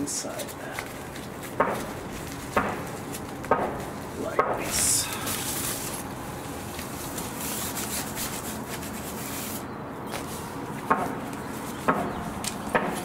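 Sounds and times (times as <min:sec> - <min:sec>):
fabric rustling and rubbing: 0:00.2 - 0:11.9.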